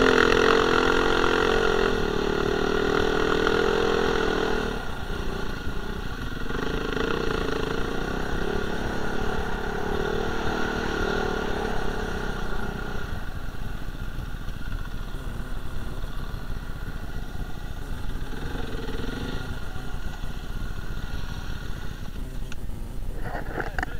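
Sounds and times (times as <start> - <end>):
dirt bike engine running: 0.0 - 23.9
low rumbling haze: 0.0 - 23.9.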